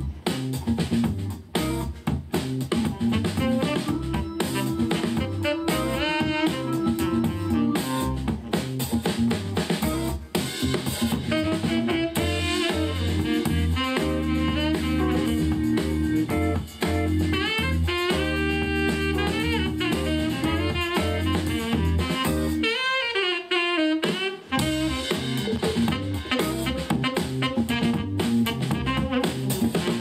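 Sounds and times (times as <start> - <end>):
instrumental music through speaker: 0.0 - 30.0.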